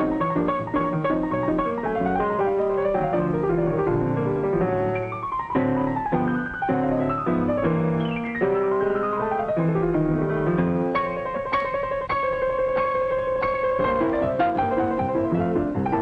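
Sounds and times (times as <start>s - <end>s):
fast piano music: 0.0s - 16.0s.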